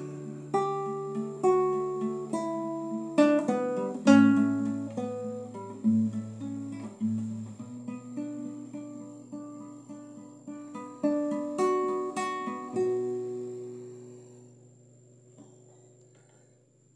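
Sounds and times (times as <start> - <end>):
classical guitar chords: 0.0 - 16.1.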